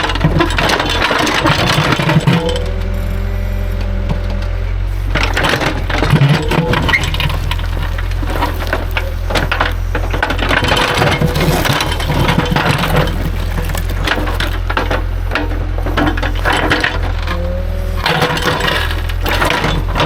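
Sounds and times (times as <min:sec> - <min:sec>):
bucket scraping rocks and dirt: 0:00.0 - 0:20.0
clattering impacts: 0:00.0 - 0:20.0
diesel excavator engine running: 0:00.0 - 0:20.0.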